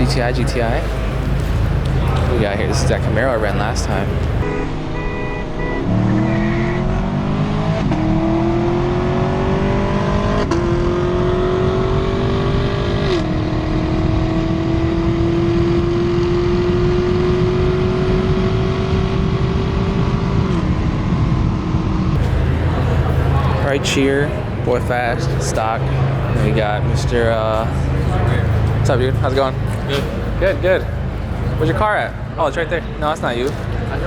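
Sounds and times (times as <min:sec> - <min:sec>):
car engine accelerating hard: 0:00.0 - 0:34.0.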